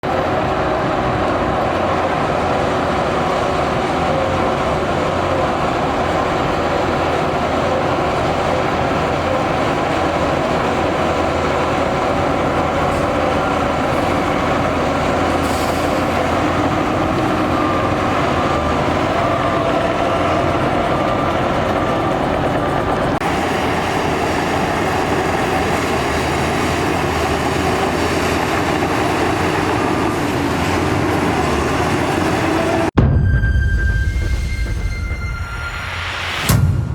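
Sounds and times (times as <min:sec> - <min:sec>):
heavy diesel machinery running: 0:00.0 - 0:36.9.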